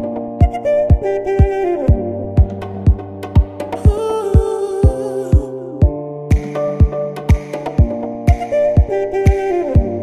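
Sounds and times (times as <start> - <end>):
kick drum beat: 0.0 - 8.9.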